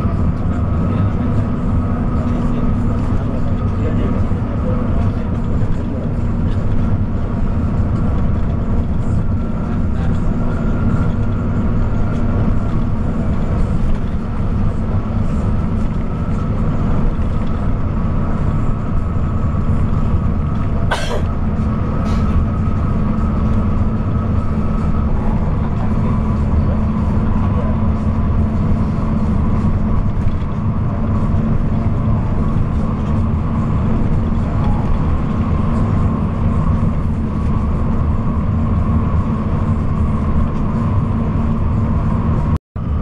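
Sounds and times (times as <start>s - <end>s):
constant hum: 0.0s - 43.0s.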